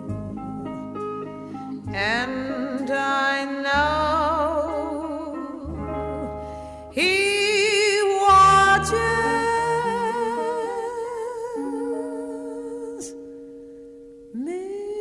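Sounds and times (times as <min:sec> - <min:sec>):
guitar: 0:00.0 - 0:15.0
woman singing with vibrato: 0:01.8 - 0:13.6, 0:14.3 - 0:15.0.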